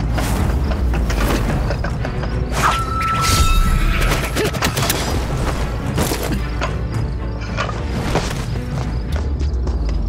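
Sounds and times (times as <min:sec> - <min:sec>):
action film music: 0:00.0 - 0:10.0.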